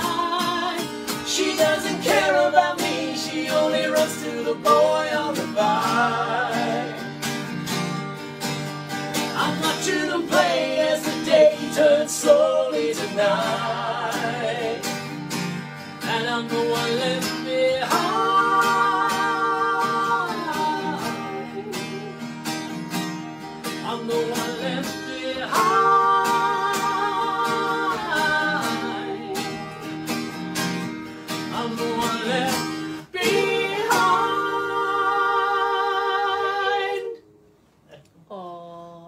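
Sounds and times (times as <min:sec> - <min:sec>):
person singing with vibrato: 0:00.0 - 0:07.3, 0:09.2 - 0:15.1, 0:16.0 - 0:22.4, 0:23.6 - 0:30.1, 0:31.2 - 0:37.3
acoustic guitar strumming: 0:00.0 - 0:37.7.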